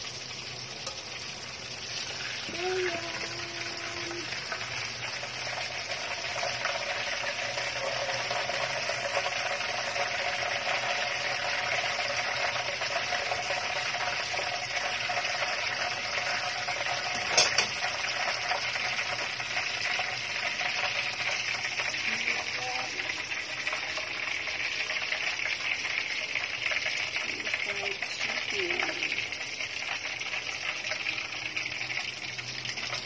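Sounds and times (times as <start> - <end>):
chicken deep-frying in oil: 0.0 - 33.0.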